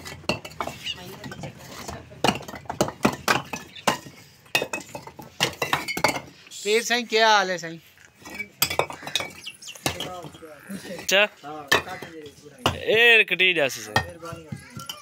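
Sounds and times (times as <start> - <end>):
bricks clinking together: 0.0 - 6.4, 8.2 - 12.9, 13.8 - 15.0.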